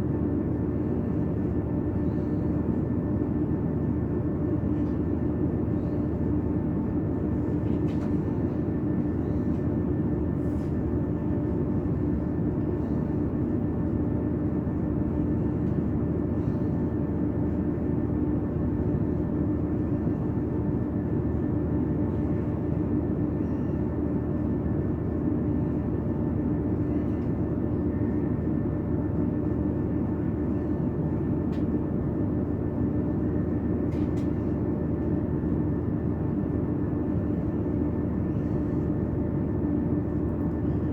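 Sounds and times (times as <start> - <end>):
train rumble inside carriage: 0.0 - 40.9.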